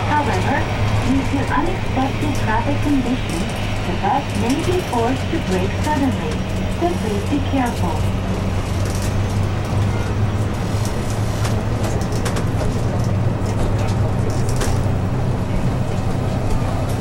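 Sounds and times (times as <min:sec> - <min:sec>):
bus engine drone: 0:00.0 - 0:17.0
road and tyre noise: 0:00.0 - 0:17.0.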